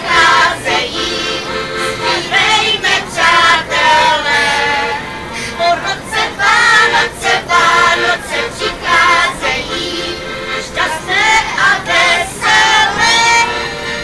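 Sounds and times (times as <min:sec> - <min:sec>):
voices singing together: 0:00.0 - 0:14.0.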